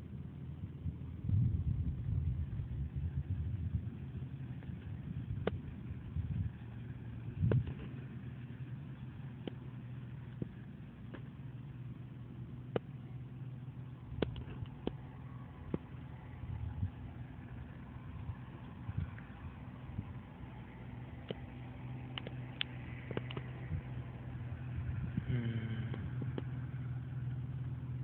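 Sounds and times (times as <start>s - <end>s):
machine engine humming: 0.0s - 28.0s.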